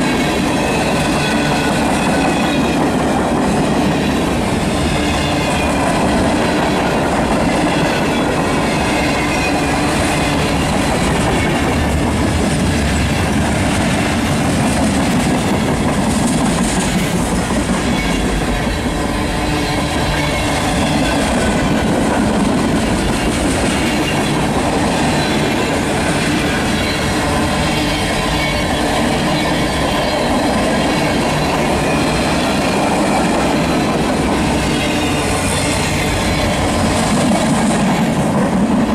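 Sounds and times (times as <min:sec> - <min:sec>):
freight train wheels rumbling on rail: 0:00.0 - 0:38.9.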